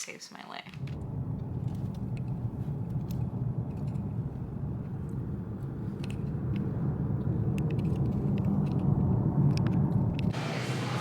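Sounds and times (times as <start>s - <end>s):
car engine and road rumble: 0.8s - 10.4s.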